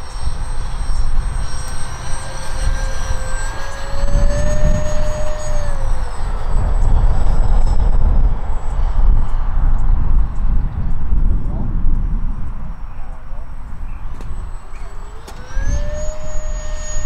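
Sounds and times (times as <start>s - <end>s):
electric ducted fan whining: 0.0s - 17.0s.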